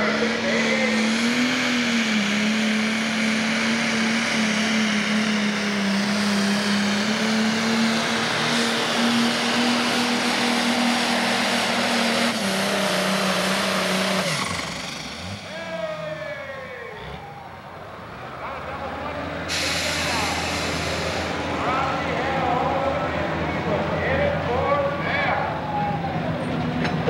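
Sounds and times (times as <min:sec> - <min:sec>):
diesel tractor engine revving: 0:00.0 - 0:27.0.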